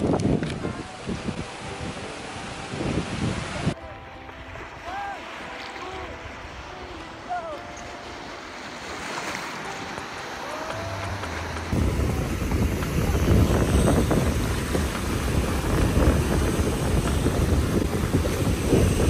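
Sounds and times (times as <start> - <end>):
wind buffeting microphone: 0.0 - 5.4, 6.0 - 19.0
waves breaking: 0.0 - 19.0.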